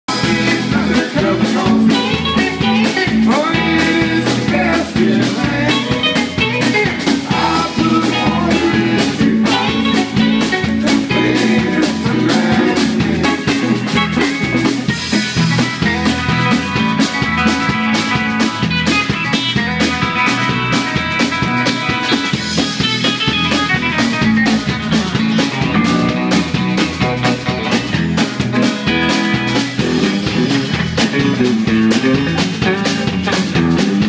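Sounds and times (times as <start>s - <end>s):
live band jamming: 0.1s - 34.0s
steady drum beat: 0.1s - 34.0s.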